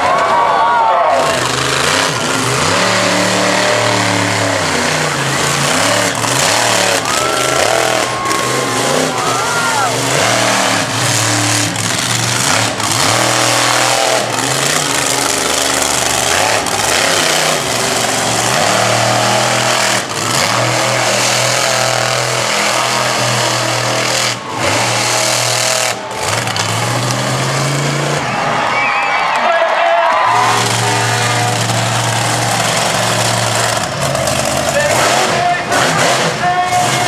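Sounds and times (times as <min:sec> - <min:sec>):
truck engine at high revs: 0:01.0 - 0:28.8, 0:29.5 - 0:37.0.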